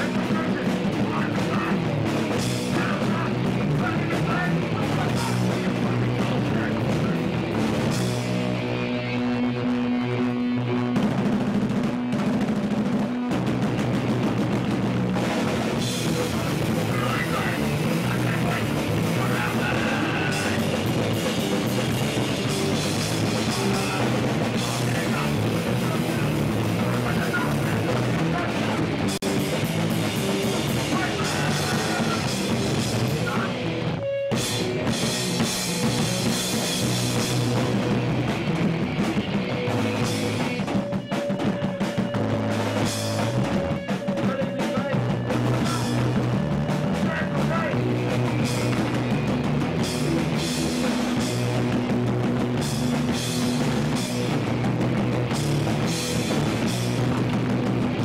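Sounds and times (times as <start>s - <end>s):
bass guitar: 0.0s - 58.0s
distorted electric guitar: 0.0s - 58.0s
pounding drum kit: 0.0s - 58.0s.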